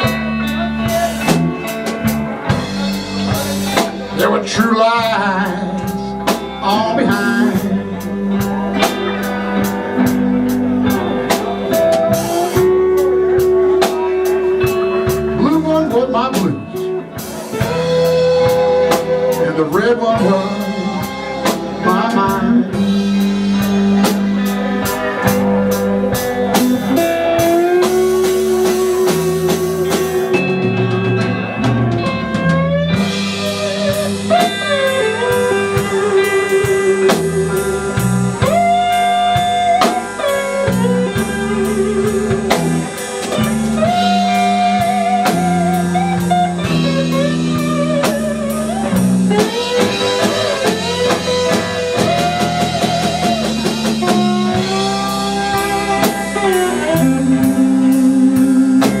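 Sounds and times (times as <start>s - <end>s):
bass: 0.0s - 59.0s
drum kit: 0.0s - 59.0s
lead guitar bending notes: 0.0s - 59.0s.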